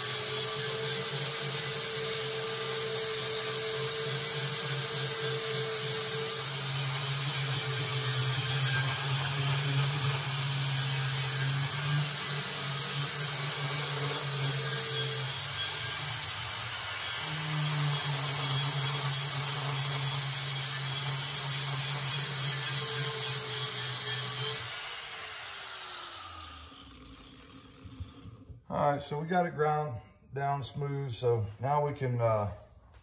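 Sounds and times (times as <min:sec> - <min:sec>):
power grinder grinding metal: 0:00.0 - 0:28.6.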